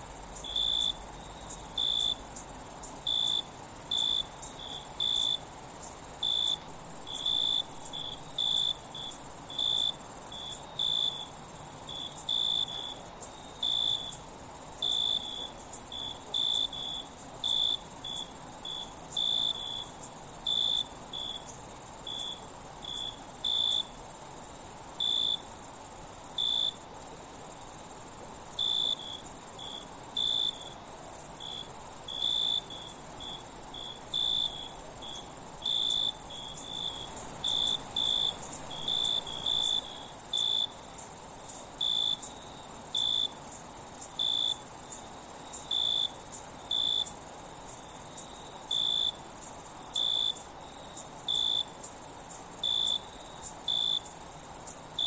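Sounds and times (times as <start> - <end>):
cricket chirping in bursts: 0.0 - 55.0
insects trilling: 0.0 - 55.0.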